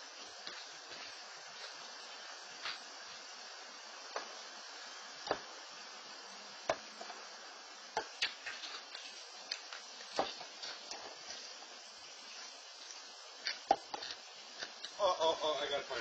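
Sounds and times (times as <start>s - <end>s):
microphone hiss: 0.0s - 16.0s.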